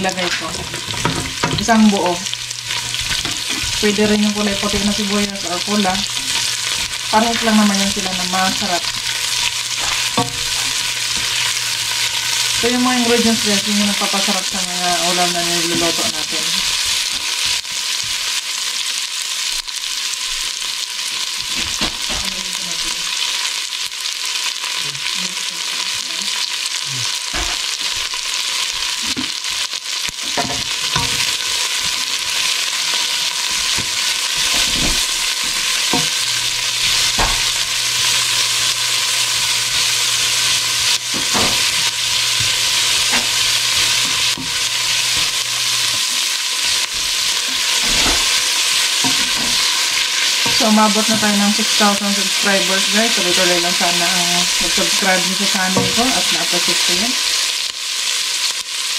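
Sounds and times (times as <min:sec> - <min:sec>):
onions sizzling in oil: 0:00.0 - 0:58.9.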